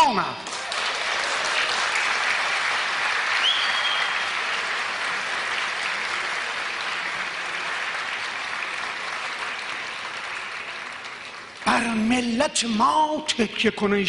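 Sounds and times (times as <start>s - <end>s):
audience applauding: 0.4s - 12.4s.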